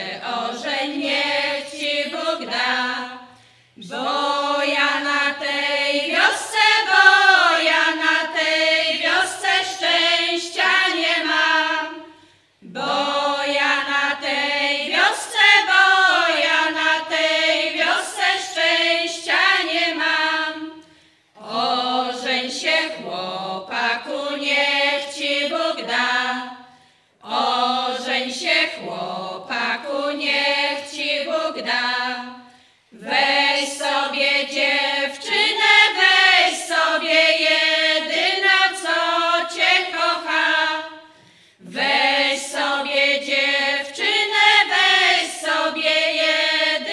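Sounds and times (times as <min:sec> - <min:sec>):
women's choir singing a cappella: 0:00.0 - 0:46.9.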